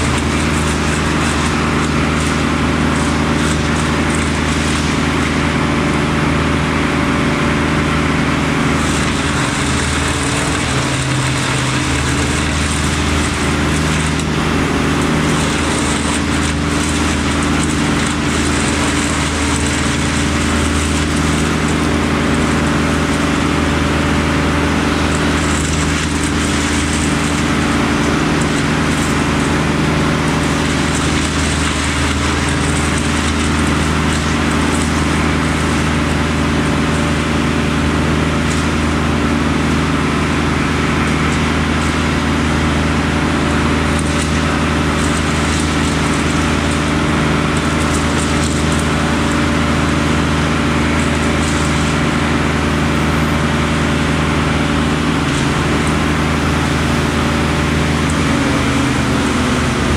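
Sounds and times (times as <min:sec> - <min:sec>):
crane engine running: 0:00.0 - 0:59.9.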